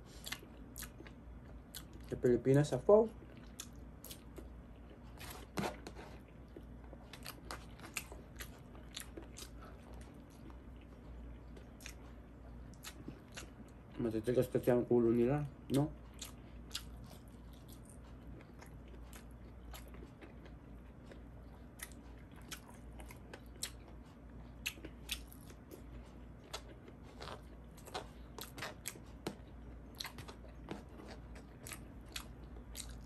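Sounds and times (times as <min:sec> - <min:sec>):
person chewing and crunching: 0:00.0 - 0:14.4, 0:15.6 - 0:33.0.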